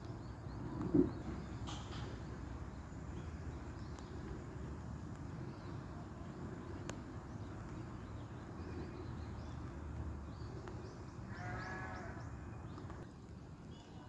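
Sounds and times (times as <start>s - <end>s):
steady low rumble: 0.0s - 11.3s.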